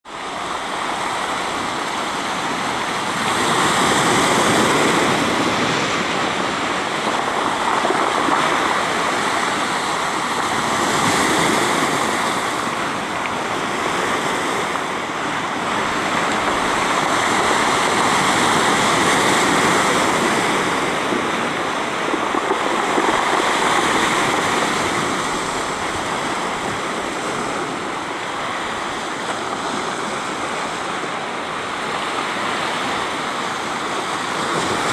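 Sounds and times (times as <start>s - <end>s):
surf on pebble beach: 0.0s - 34.9s.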